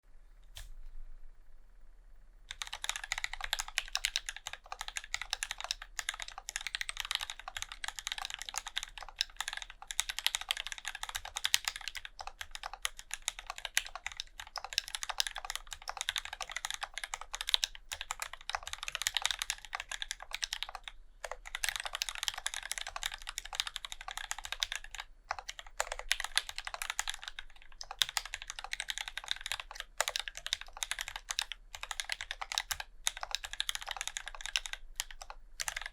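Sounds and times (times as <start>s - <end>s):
fast mechanical keyboard typing: 2.5s - 35.9s.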